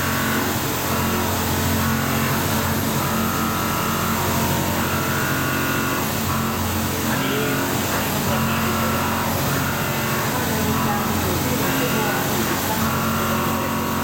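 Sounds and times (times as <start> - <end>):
cutting whine: 0.0 - 14.0
milling machine spindle hum: 0.0 - 14.0.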